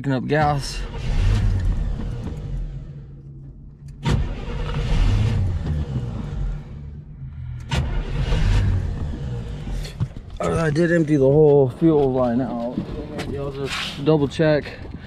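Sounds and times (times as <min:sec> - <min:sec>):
car engine running unevenly: 0:00.4 - 0:13.6.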